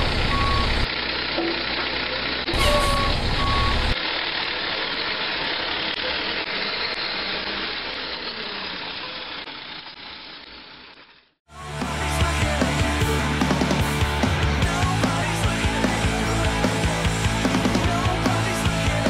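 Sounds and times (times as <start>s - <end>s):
truck engine rumble: 0.0s - 19.0s.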